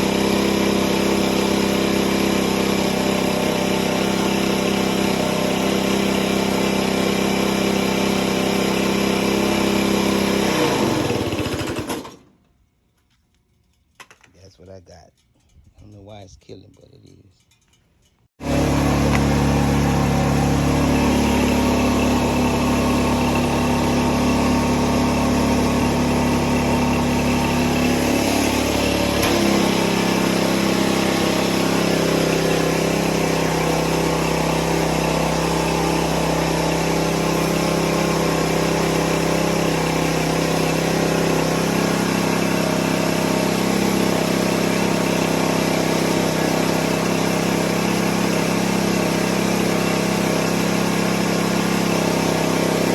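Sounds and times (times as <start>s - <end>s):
pressure washer engine running: 0.0s - 12.3s, 18.4s - 52.9s.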